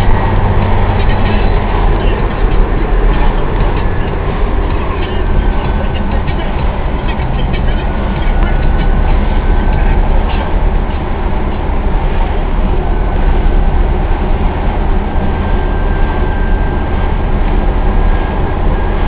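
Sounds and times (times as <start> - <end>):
car engine and road rumble: 0.0 - 19.0
faint thin whine: 0.0 - 19.0.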